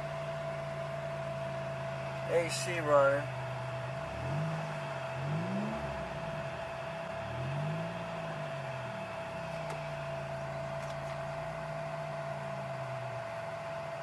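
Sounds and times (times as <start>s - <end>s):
car engine idling: 0.0s - 14.0s
constant higher hum: 0.0s - 14.0s.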